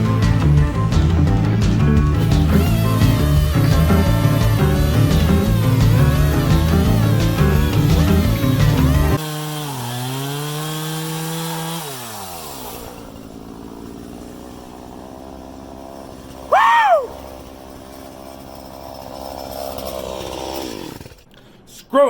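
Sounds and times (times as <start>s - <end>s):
chainsaw running: 0.0s - 21.3s.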